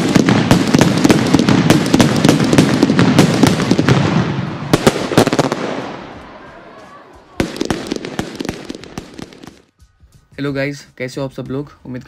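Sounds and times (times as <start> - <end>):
fireworks crackling and popping: 0.0 - 11.1.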